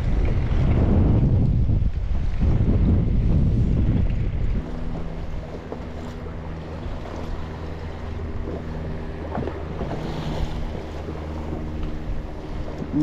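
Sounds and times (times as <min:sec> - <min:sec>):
water lapping at hull: 0:00.0 - 0:13.0
wind buffeting microphone: 0:00.0 - 0:13.0.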